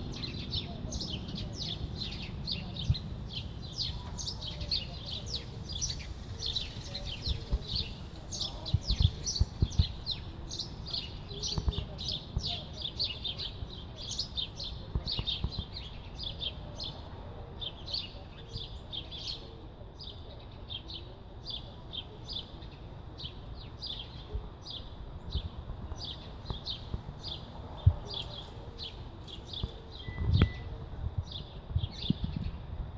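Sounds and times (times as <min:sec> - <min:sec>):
birds chirping: 0:00.0 - 0:32.7.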